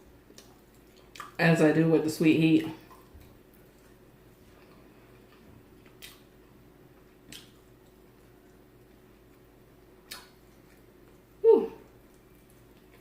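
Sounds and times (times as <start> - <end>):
wet mouth eating sounds: 0.2 - 1.4, 2.9 - 6.4, 7.2 - 13.0.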